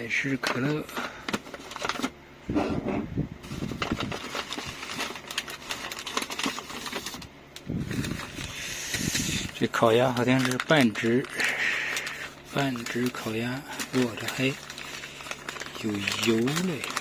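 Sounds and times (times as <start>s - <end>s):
plastic packaging crinkling: 0.0s - 2.2s, 3.4s - 17.0s.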